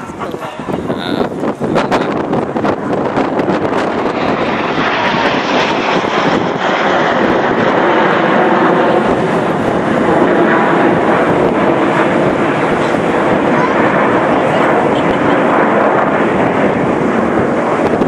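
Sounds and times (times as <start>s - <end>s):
jets passing overhead: 0.0s - 18.0s.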